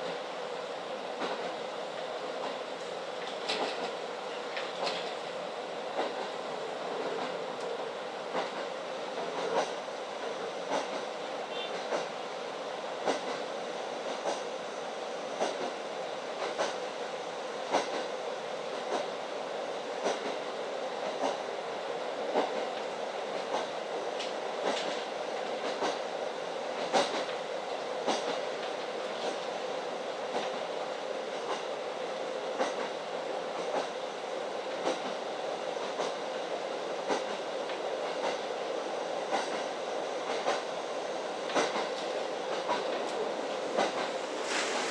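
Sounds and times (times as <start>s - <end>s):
railcar running noise: 0.0s - 44.9s.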